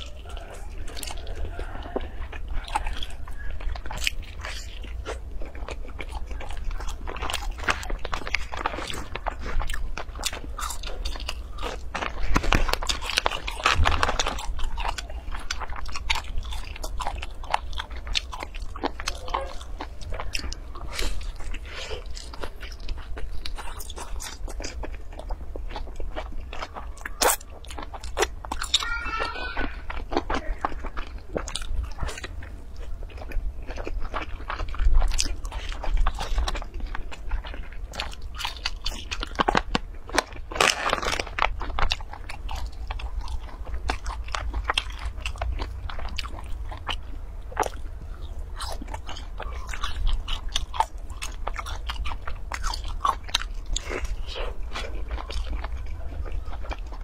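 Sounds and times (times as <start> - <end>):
crunchy biting and chewing: 0.0 - 57.0.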